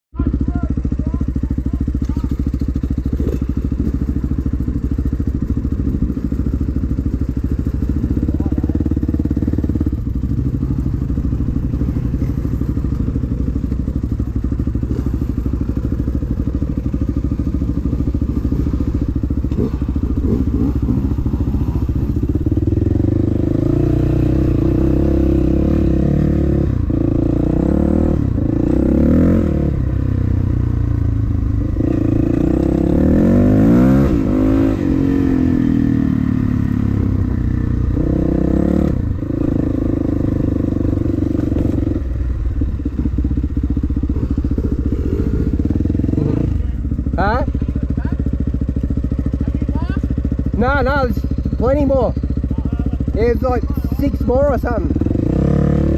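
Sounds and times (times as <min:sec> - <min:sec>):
dirt bike engine revving: 0:00.2 - 0:55.9.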